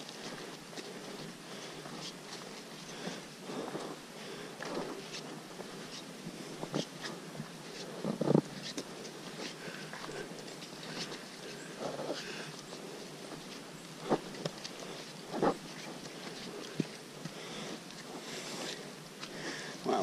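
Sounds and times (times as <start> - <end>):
footsteps on dirt trail: 0.0 - 20.0.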